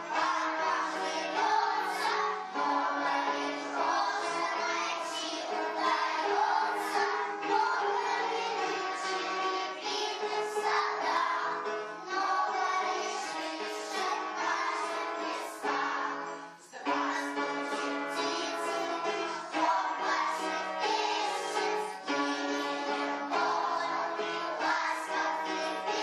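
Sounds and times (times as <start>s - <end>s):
children singing: 0.0s - 26.0s
musical accompaniment: 0.0s - 26.0s.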